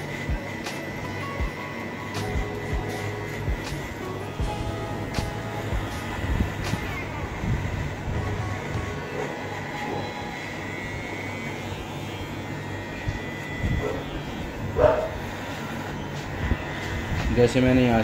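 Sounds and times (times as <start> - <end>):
electric hair clipper humming: 0.0 - 18.0.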